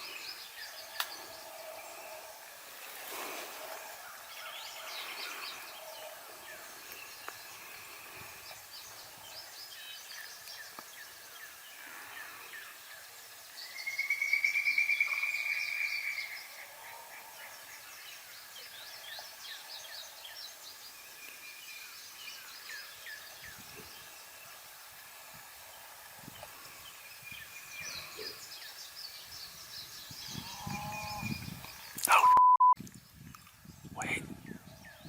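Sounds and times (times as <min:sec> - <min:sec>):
songbirds chirping and whistling: 0:00.0 - 0:35.0.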